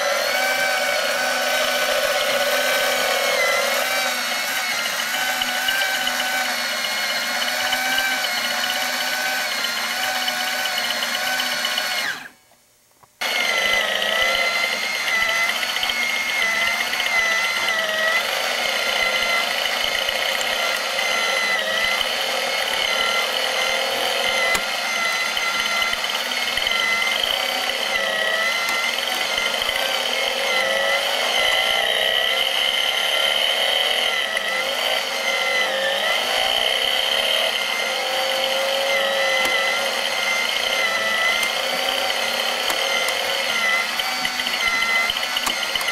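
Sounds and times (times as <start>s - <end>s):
small electric motor whining: 0.0s - 12.4s, 13.2s - 45.9s.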